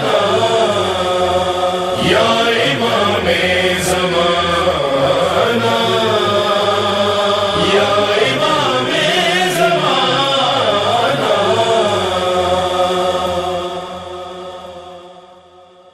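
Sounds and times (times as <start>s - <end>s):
chorus of voices chanting: 0.0s - 15.9s.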